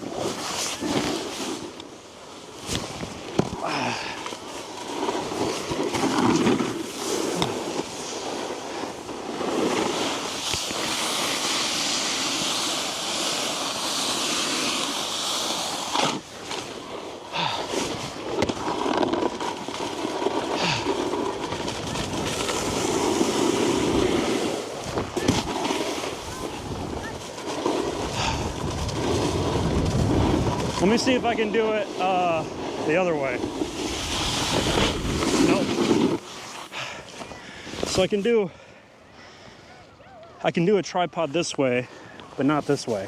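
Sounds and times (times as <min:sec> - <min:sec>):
snowboard scraping over snow: 0:00.0 - 0:38.5, 0:41.5 - 0:43.0.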